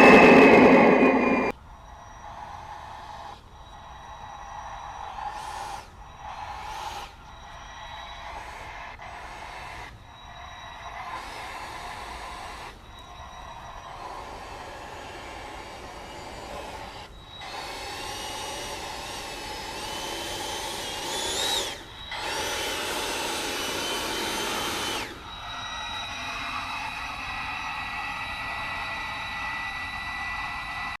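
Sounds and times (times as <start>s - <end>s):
model jet high whine: 0.0s - 31.0s.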